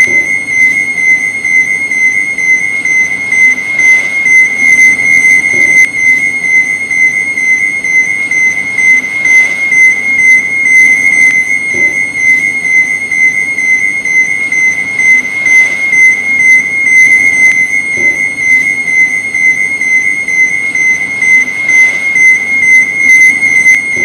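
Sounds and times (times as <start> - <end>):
high-pitched alarm tone: 0.0 - 24.0.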